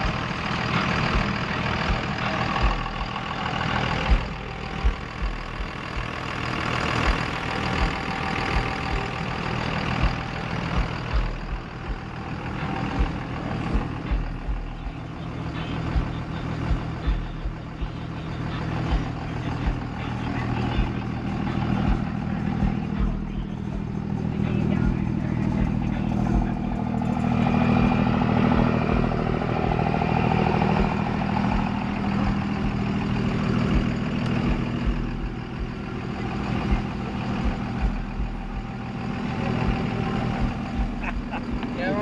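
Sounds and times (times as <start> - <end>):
large vehicle engine idling: 0.0 - 42.0
irregular low thumps: 1.0 - 9.2, 9.8 - 15.2, 15.8 - 18.2, 18.9 - 42.0.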